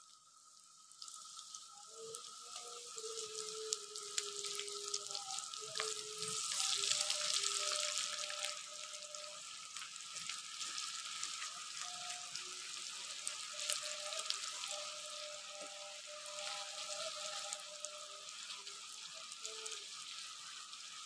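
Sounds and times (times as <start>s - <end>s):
deep-frying sizzle with pops: 0.0s - 21.0s.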